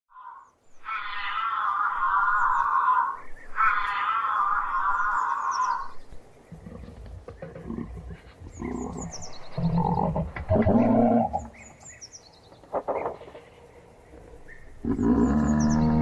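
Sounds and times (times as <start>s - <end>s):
faint bird chirps: 0.1s - 10.1s, 10.7s - 16.0s
giraffe grunting calls: 0.1s - 11.7s, 14.8s - 16.0s.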